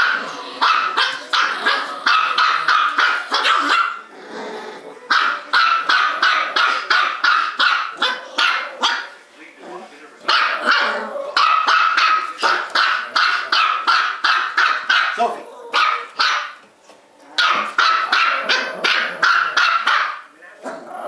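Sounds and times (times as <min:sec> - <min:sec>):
small dogs barking rapidly: 0:00.0 - 0:04.1, 0:05.1 - 0:09.2, 0:10.3 - 0:16.6, 0:17.3 - 0:20.3.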